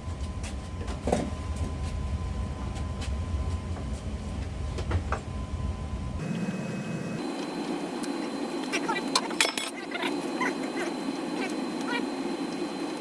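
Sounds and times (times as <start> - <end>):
furnace rumbling: 0.0 - 12.3.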